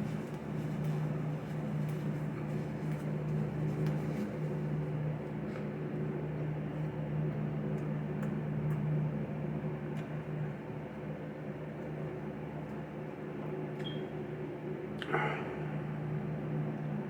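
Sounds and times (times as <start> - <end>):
low mechanical motor hum: 0.0 - 17.0.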